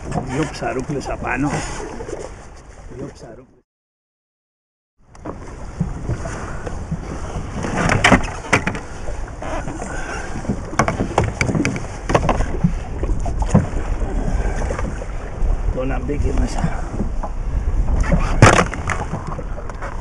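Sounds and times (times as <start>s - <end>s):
water noise around boat: 0.0s - 3.6s, 5.0s - 20.0s
wind: 0.0s - 3.6s, 5.0s - 20.0s.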